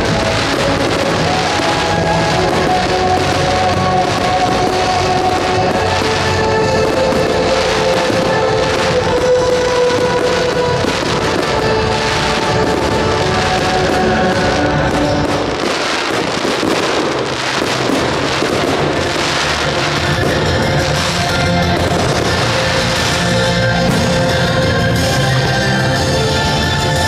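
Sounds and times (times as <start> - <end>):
fireworks bursting: 0.0 - 27.0
loud music: 0.0 - 27.0.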